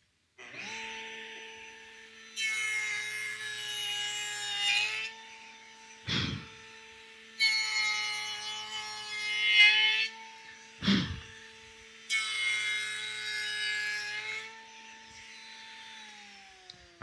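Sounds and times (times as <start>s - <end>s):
router cutting wood: 0.4s - 17.0s.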